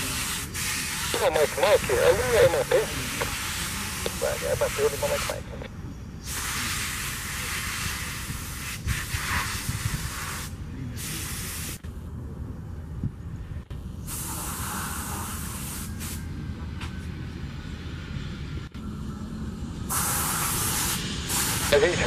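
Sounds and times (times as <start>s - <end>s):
jet engine hiss and rumble: 0.0s - 22.0s.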